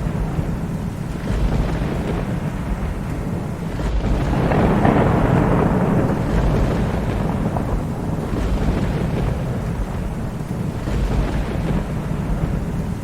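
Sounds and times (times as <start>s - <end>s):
rain: 0.0s - 13.0s
thunder rumbling: 0.0s - 13.0s.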